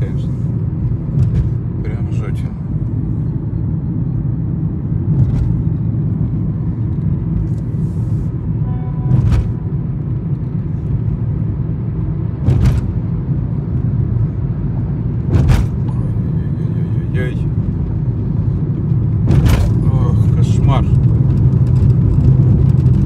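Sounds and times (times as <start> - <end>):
tyre and road rumble: 0.0 - 23.0.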